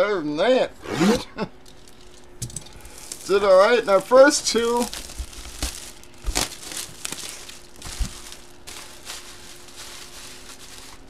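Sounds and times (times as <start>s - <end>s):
plastic bag crinkling: 1.6s - 11.0s.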